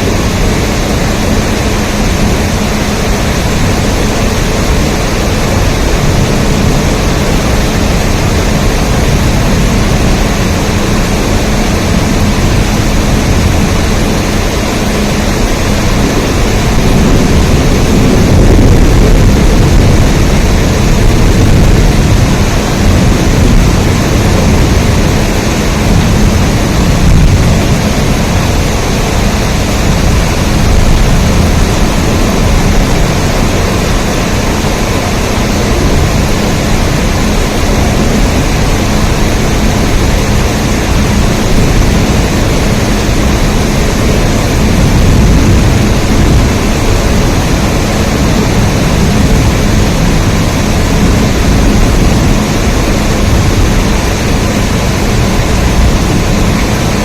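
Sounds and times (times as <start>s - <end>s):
loud rain with deep rumble: 0.0s - 57.0s.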